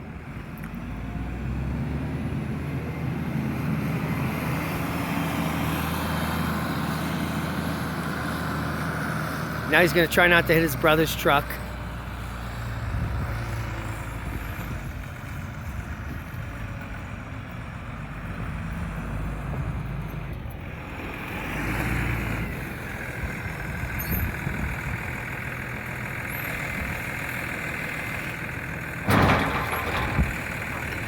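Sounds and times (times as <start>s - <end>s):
forklift engine running: 0.0s - 31.0s.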